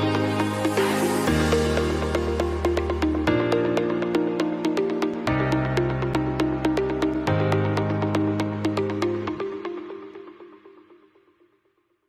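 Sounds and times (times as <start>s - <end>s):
synthesizer chords: 0.0s - 11.1s.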